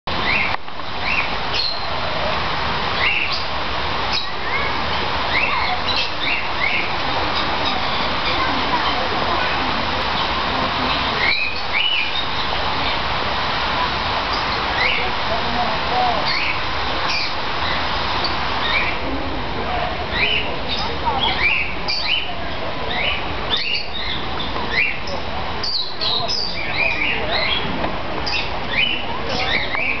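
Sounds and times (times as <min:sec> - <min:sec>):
caged birds chirping: 0:00.1 - 0:30.0
steady background hiss: 0:00.1 - 0:30.0
steady background noise: 0:00.1 - 0:30.0.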